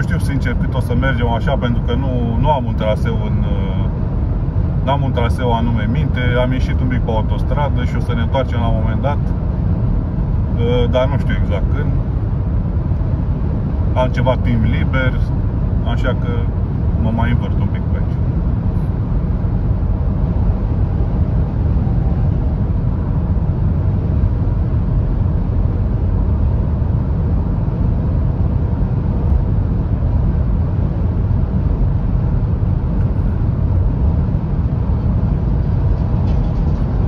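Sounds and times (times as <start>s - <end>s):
road and wind noise in car: 0.0s - 37.0s.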